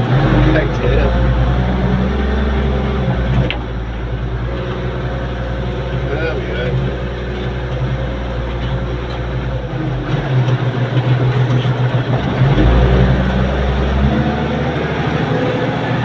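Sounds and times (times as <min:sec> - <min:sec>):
work machine engine running: 0:00.0 - 0:16.0.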